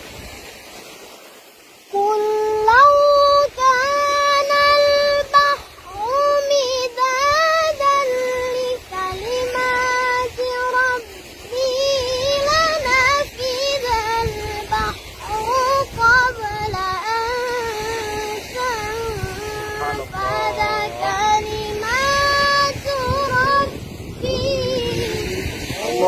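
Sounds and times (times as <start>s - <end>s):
child chanting recitation: 2.0s - 26.0s.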